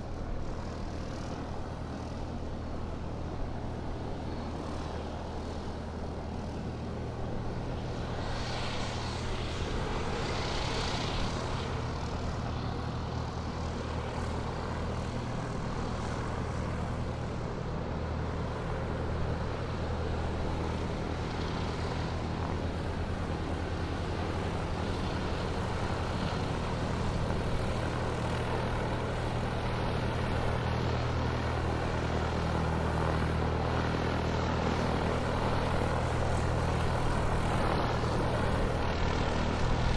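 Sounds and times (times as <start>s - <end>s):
airplane engine droning: 0.0s - 39.9s.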